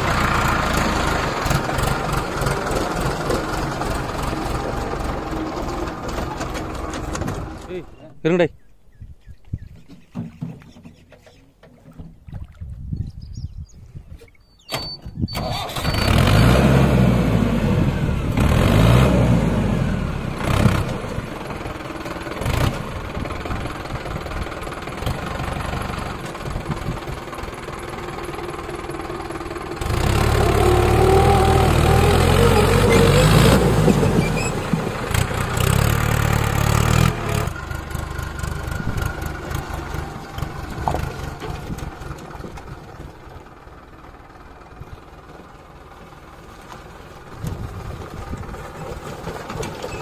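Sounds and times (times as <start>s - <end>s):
diesel engine revving: 0.0s - 8.0s, 15.3s - 50.0s.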